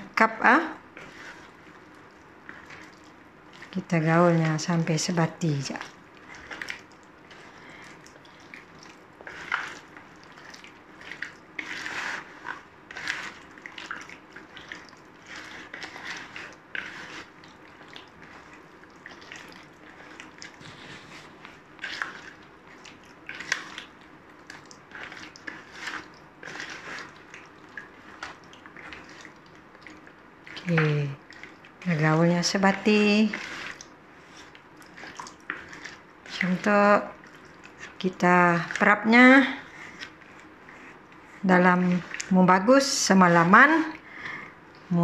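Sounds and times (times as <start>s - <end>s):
faint steady hum: 0.0s - 45.0s
squelching marinade: 0.1s - 45.0s.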